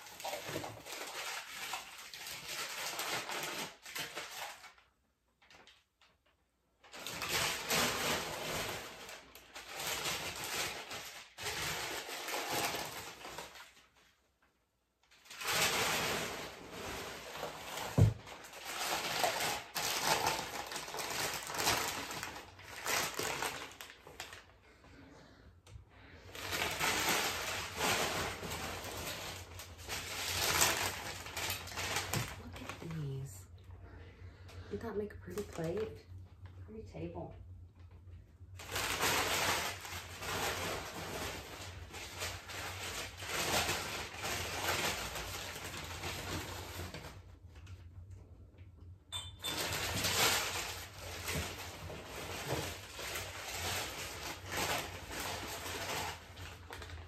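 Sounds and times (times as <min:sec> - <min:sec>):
packing paper rustling: 0:00.0 - 0:36.6, 0:38.5 - 0:48.0, 0:49.2 - 0:57.0.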